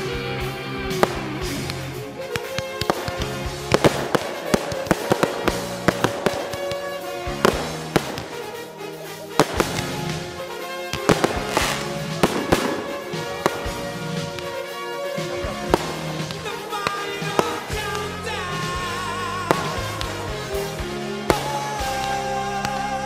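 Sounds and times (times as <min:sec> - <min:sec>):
firework bangs and crackles: 0:00.0 - 0:23.0
music playing: 0:00.0 - 0:23.0.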